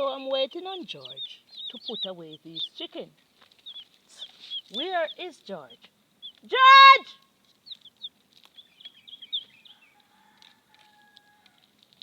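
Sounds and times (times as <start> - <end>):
baby chicks peeping: 0.0 - 6.8, 7.5 - 11.2.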